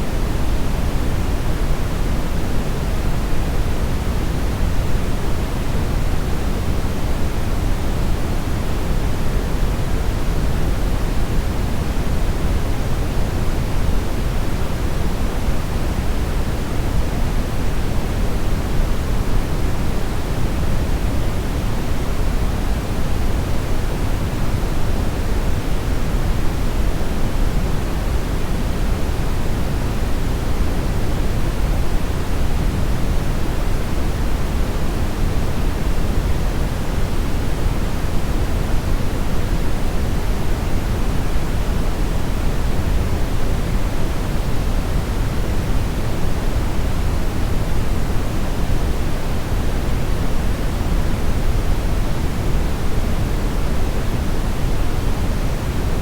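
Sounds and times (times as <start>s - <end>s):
brown noise hiss: 0.0s - 56.0s.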